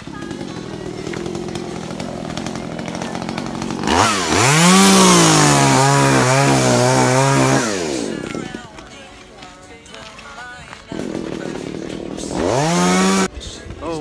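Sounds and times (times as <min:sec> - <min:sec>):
two-stroke engine revving: 0:00.0 - 0:08.9, 0:10.9 - 0:13.3.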